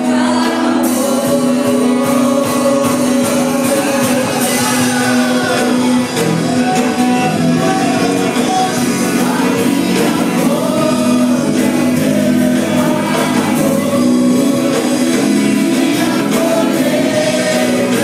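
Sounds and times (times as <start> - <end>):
gospel singers with band: 0.0 - 18.0.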